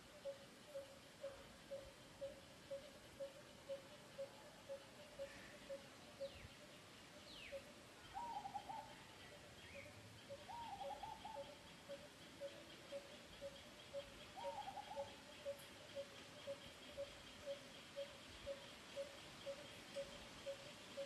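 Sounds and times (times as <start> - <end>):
faint low bird calls: 0.0 - 21.0.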